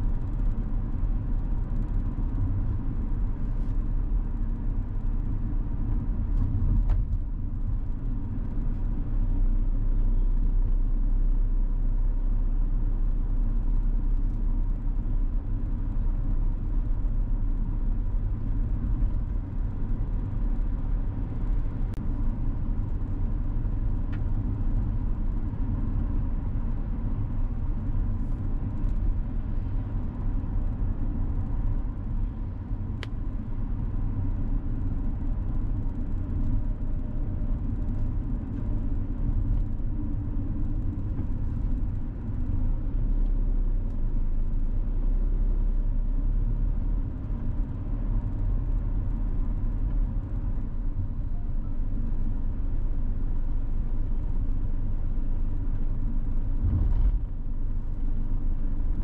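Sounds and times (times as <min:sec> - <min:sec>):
car driving rumble: 0:00.0 - 0:59.0
faint steady whine: 0:00.0 - 0:59.0.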